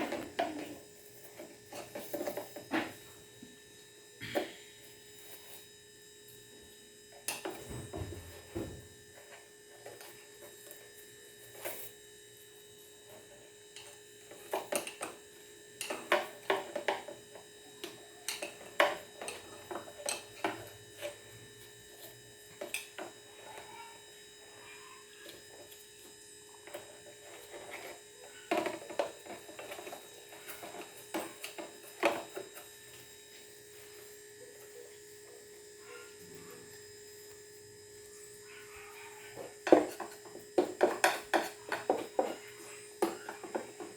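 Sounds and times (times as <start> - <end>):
steady electrical hum: 0.0 - 43.9.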